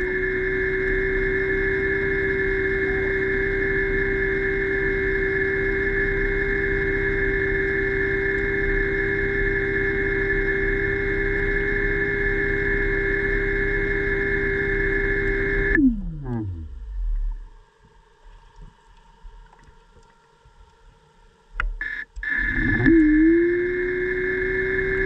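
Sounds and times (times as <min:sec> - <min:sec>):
underwater motor whining: 0:00.0 - 0:17.8, 0:21.8 - 0:25.0.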